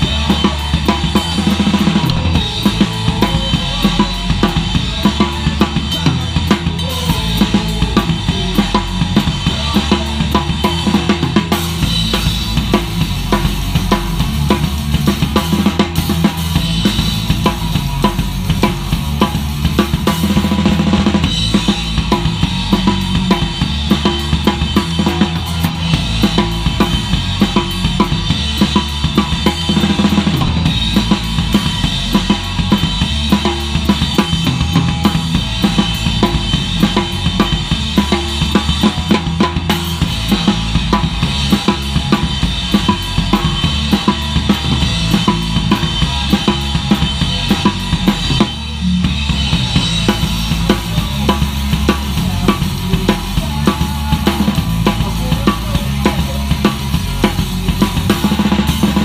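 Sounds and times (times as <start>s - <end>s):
fast drum beat: 0.0s - 59.0s
punk band playing: 0.0s - 59.0s.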